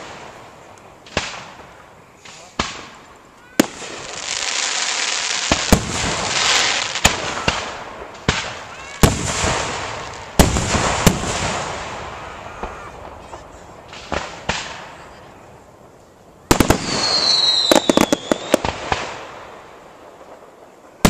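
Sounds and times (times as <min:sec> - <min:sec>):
volley of firework bangs: 0:00.0 - 0:15.7, 0:16.4 - 0:21.0
fireworks booming with echo: 0:00.0 - 0:21.0
fireworks crackling: 0:00.0 - 0:21.0.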